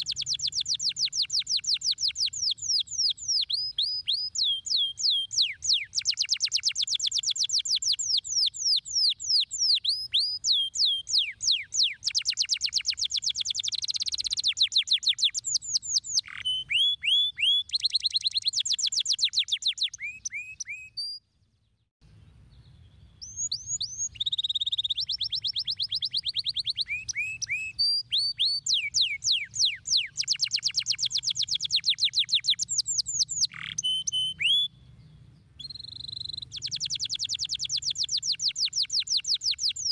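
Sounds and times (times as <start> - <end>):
canary singing trills: 0.0 - 21.2, 22.5 - 39.9.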